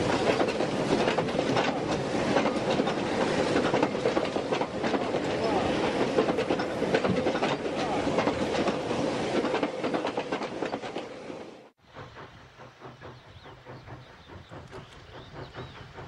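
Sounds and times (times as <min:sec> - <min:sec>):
distant steam locomotive: 0:00.0 - 0:16.0
train wheels clattering over rail joints: 0:00.0 - 0:16.0.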